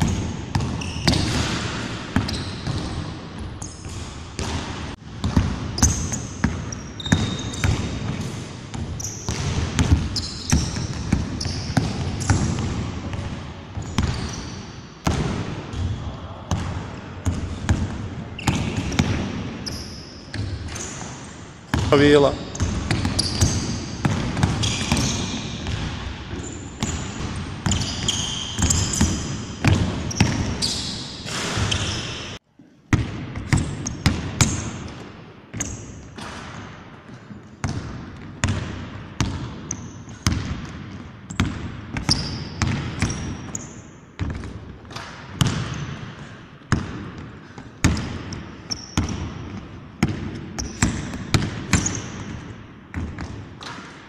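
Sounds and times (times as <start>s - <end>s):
basketball bouncing in echoing hall: 0.0s - 54.0s.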